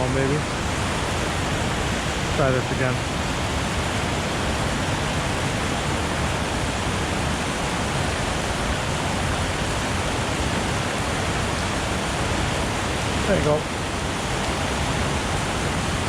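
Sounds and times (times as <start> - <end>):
fast-flowing water rushing: 0.0 - 16.0.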